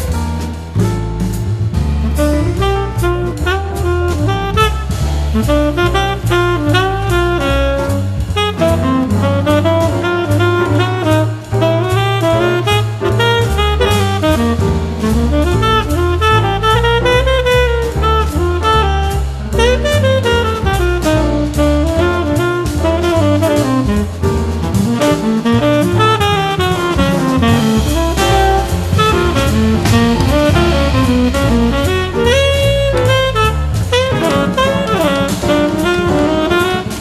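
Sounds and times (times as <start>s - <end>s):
drum kit: 0.0s - 37.0s
low bass line: 0.0s - 37.0s
saxophone solo: 2.0s - 37.0s.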